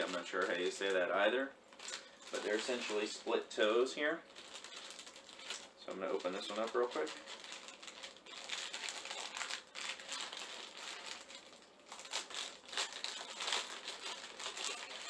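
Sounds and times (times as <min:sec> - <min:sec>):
packaging rustling and crackling: 0:00.0 - 0:01.1, 0:01.7 - 0:15.0.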